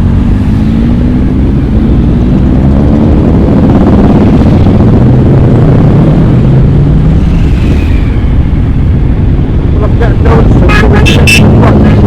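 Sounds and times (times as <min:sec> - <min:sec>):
heavy low rumble: 0:00.0 - 0:12.0
motorcycle engine accelerating: 0:00.0 - 0:12.0.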